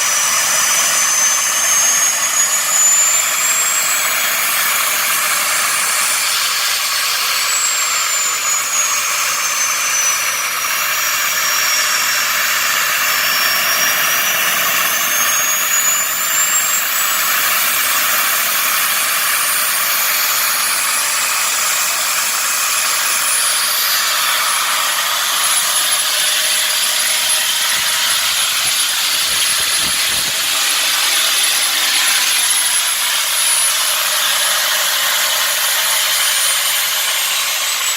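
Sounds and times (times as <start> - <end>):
gas turbine engine whining: 0.0 - 37.9.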